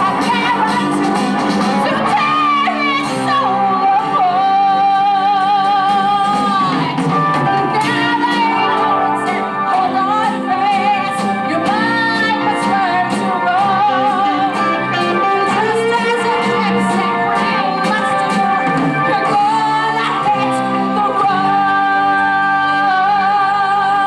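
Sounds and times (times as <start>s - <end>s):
live rock band playing: 0.0s - 24.0s
woman singing rock song: 0.0s - 24.0s.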